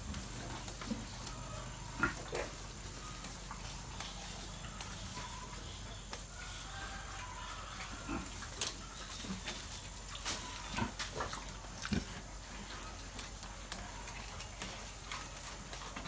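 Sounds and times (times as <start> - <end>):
pigs grunting: 0.0 - 16.0.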